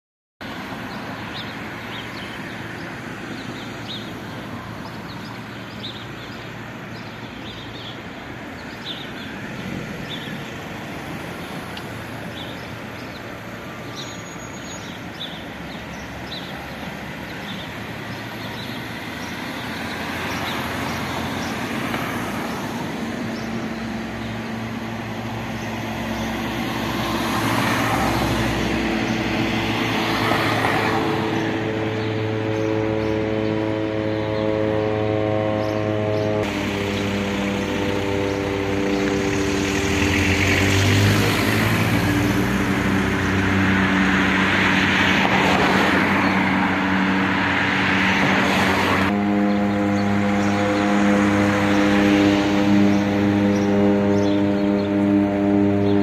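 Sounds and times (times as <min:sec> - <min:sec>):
propeller aircraft droning: 0:00.4 - 0:56.0.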